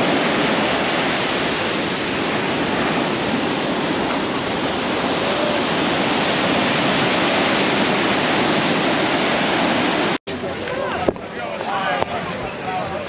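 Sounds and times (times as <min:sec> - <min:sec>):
ocean surf on sand: 0:00.0 - 0:12.8.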